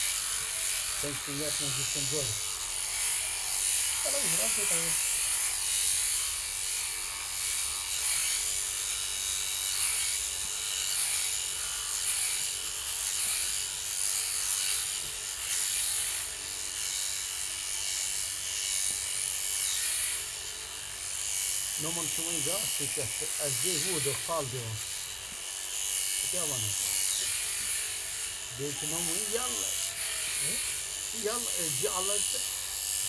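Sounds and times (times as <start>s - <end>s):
sheep shearing machine buzzing: 0.0s - 33.0s.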